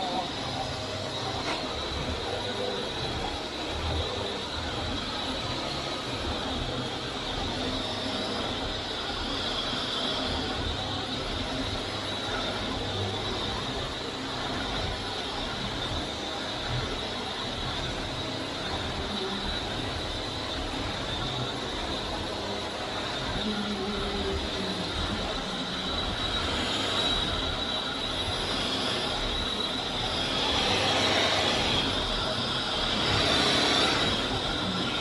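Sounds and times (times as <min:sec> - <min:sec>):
vacuum cleaner motor whining: 0:00.0 - 0:35.0.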